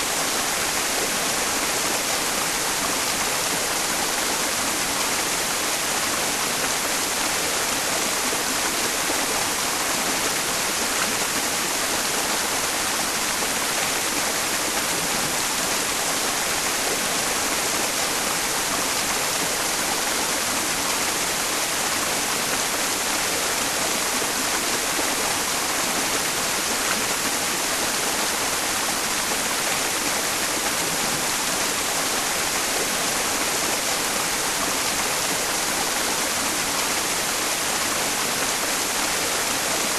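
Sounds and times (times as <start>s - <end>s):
stream flowing: 0.0s - 39.9s
white noise hiss: 0.0s - 39.9s.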